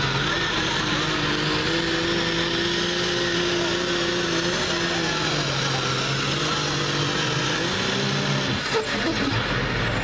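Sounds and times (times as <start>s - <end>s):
diesel engine running flat out: 0.0s - 10.0s.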